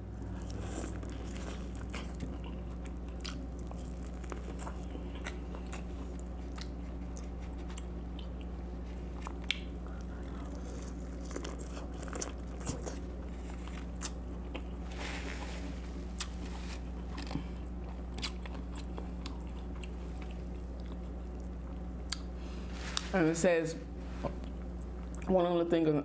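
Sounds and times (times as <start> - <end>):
person chewing corn: 0.0 - 23.1
steady low hum: 0.0 - 26.0.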